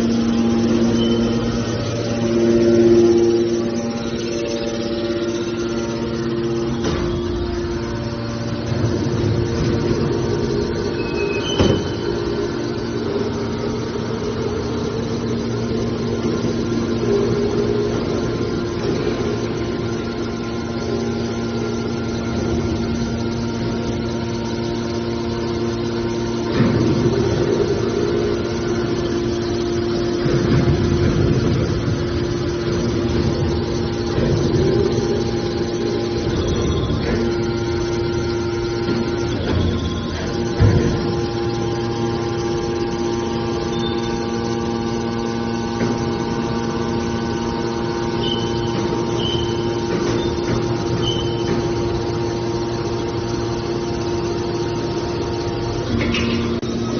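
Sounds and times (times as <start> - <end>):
hydraulic baler humming: 0.0 - 56.9.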